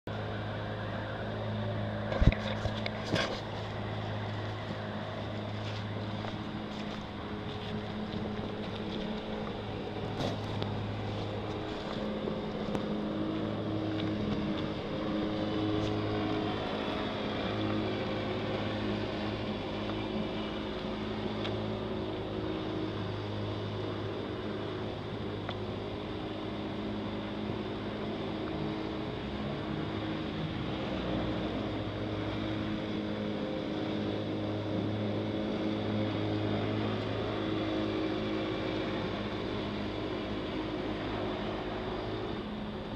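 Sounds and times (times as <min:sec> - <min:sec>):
steady motor hum: 0:00.0 - 0:42.9.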